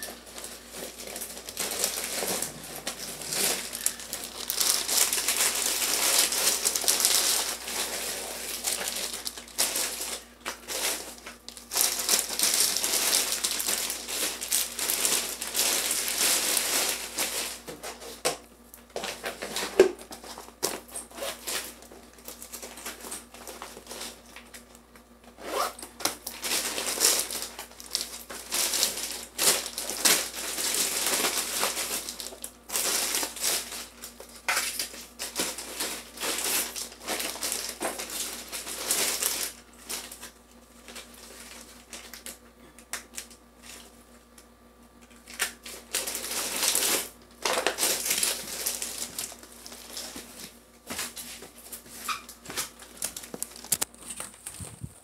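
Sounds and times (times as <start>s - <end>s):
plastic bag crinkling: 0.0s - 18.2s, 18.9s - 24.8s, 25.5s - 42.4s, 45.1s - 55.0s.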